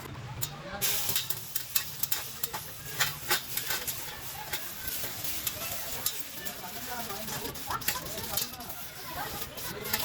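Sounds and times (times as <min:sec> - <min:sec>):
irregular crackling: 0:00.0 - 0:10.0.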